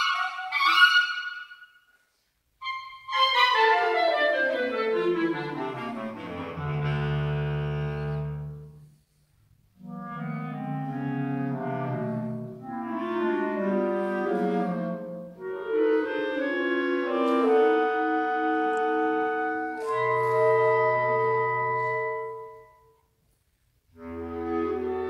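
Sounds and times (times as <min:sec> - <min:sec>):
clarinet ensemble playing chords: 0:00.0 - 0:01.6, 0:02.6 - 0:09.0, 0:09.7 - 0:23.1, 0:23.9 - 0:25.0.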